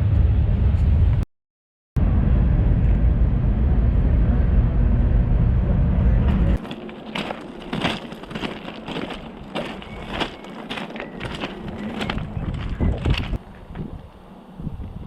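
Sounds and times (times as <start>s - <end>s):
freight train rumbling: 2.0s - 15.0s.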